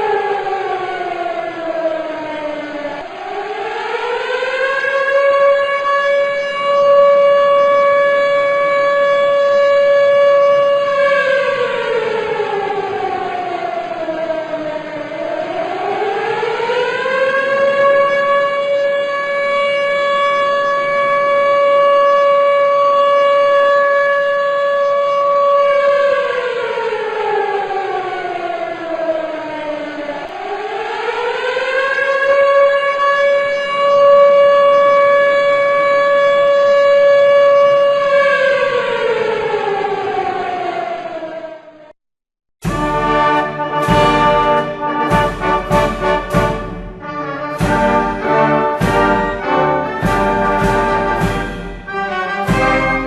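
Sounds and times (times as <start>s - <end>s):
siren rising and falling: 0.0s - 41.9s, 42.6s - 53.0s.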